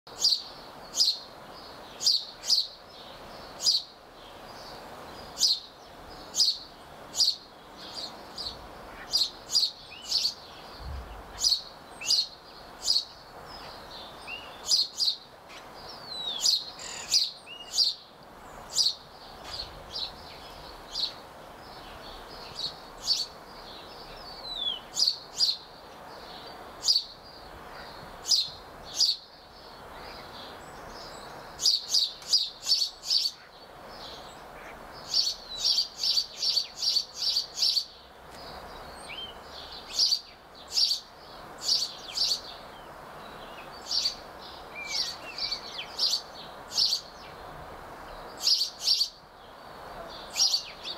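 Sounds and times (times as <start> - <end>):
faint outdoor hiss: 0.1 - 50.9
small songbird chirping: 0.1 - 50.9.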